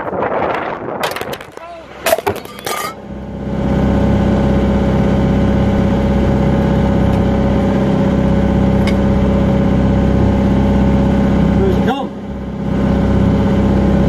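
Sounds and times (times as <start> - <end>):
engine idling: 1.7 - 14.0.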